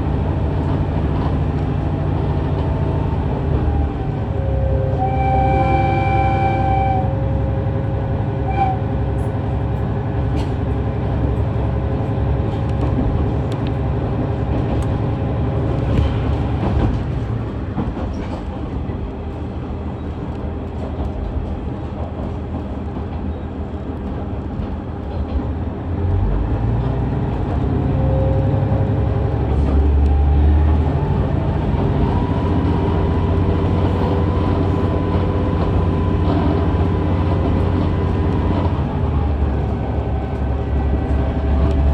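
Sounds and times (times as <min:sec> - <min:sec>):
railcar engine and wheels rumbling: 0:00.0 - 0:41.9
rail clicks: 0:07.9 - 0:41.9.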